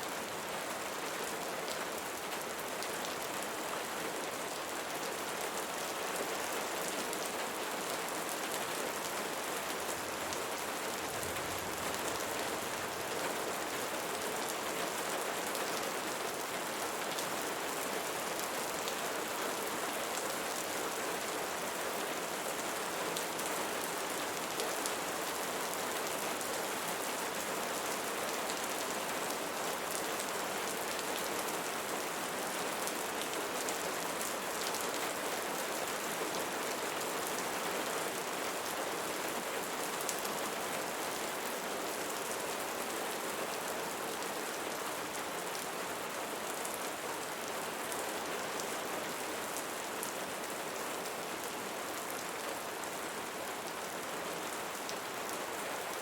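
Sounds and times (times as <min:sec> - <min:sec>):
steady rain pattering: 0:00.0 - 0:56.0.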